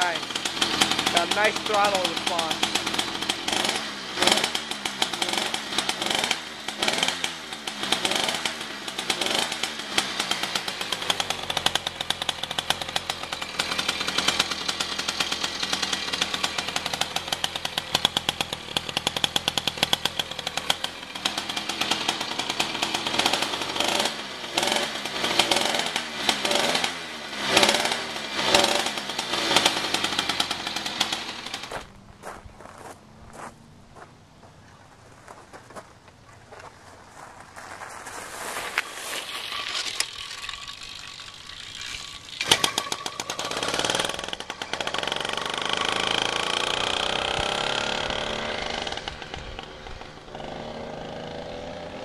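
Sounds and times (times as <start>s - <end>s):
motorized bicycle engine revving: 0.0s - 31.8s, 38.8s - 52.0s.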